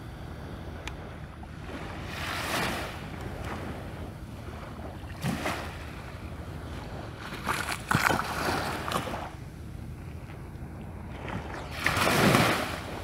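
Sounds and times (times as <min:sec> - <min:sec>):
small waves washing: 0:01.0 - 0:09.4, 0:10.0 - 0:13.0.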